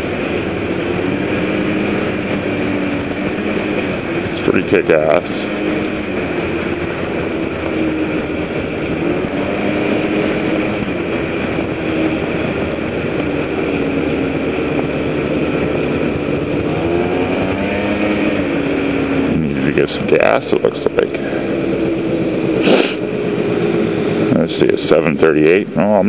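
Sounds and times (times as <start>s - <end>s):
scooter engine running: 0.0s - 26.0s
wind and road noise: 0.0s - 26.0s.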